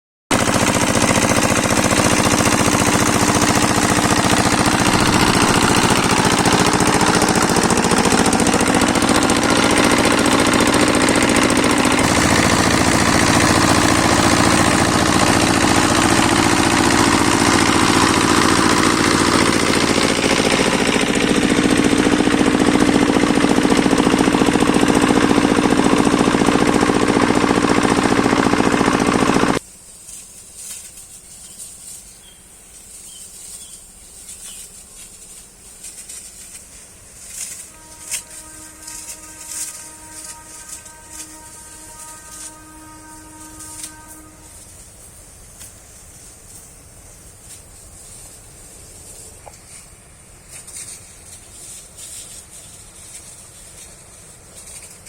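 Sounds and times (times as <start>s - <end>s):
small engine running: 0.3s - 30.2s, 33.5s - 55.0s.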